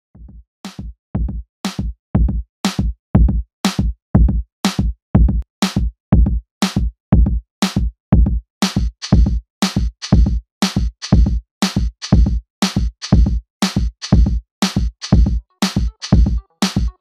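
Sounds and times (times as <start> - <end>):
electronic music with drum-machine beat: 0.2 - 17.0.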